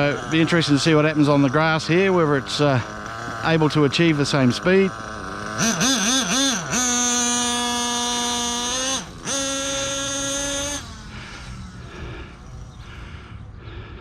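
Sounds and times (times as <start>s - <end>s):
model engine whining: 0.0s - 14.0s.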